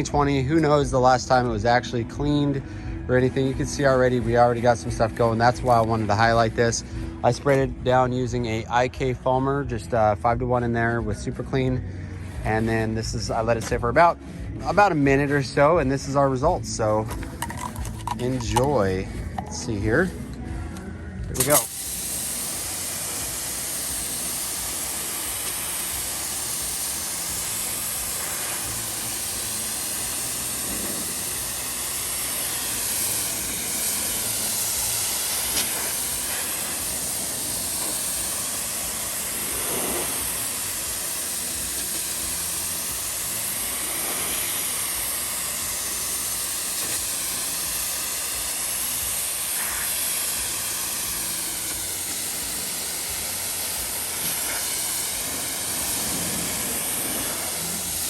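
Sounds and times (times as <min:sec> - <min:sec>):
pressure washer spraying: 0:00.0 - 0:08.6, 0:16.8 - 0:20.4, 0:21.4 - 0:58.0.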